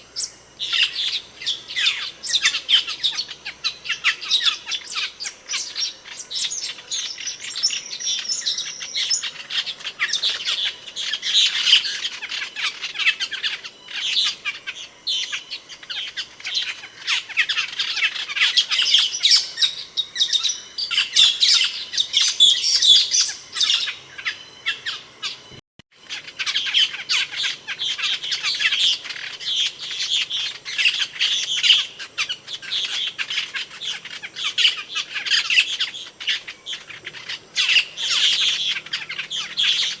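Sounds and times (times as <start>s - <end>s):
starling chirping and whistling: 0.0s - 40.0s.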